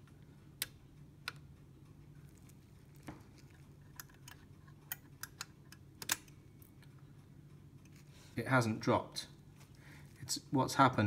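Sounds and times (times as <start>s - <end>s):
clock mechanism clicking: 0.0s - 9.1s
low steady hum: 0.0s - 11.0s.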